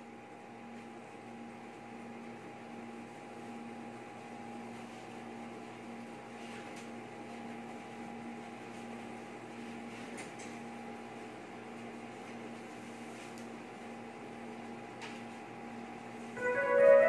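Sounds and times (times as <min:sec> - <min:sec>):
amplifier electrical hum and hiss: 0:00.0 - 0:17.0.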